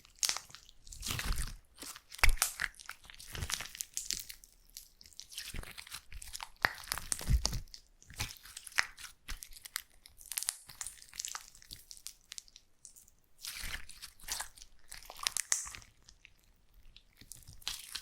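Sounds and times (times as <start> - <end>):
slime squished by hand: 0.0 - 18.0.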